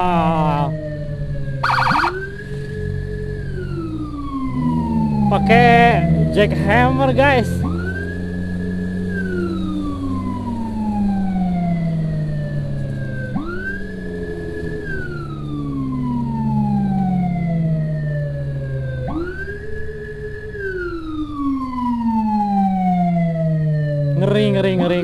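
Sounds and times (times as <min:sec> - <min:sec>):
emergency siren wailing: 0:00.0 - 0:25.0.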